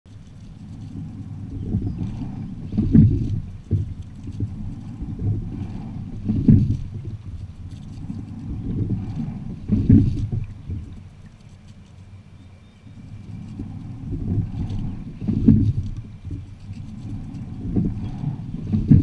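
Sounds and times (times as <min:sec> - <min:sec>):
oars splashing water: 0:00.0 - 0:19.0
steady low rumble: 0:00.1 - 0:19.0.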